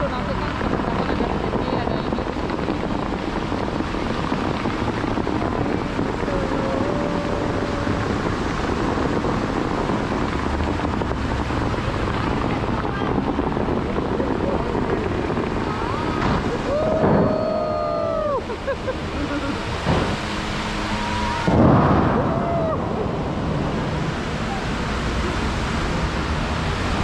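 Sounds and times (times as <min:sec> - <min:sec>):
rushing outdoor noise: 0:00.0 - 0:27.0.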